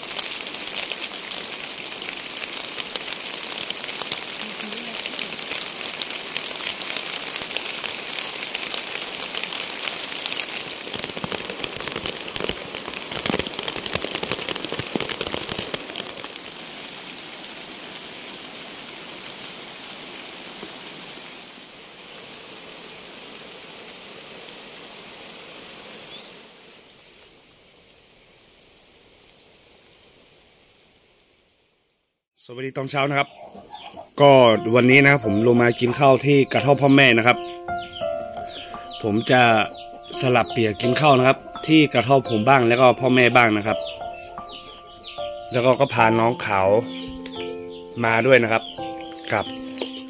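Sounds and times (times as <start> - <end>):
rain pattering: 0.0 - 32.1, 33.9 - 50.0.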